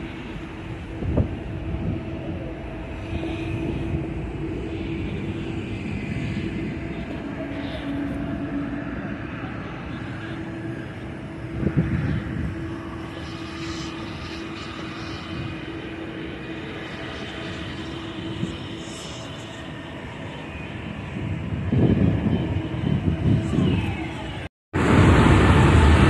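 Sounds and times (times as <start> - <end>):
jet engines rumbling and whining: 0.0 - 26.0.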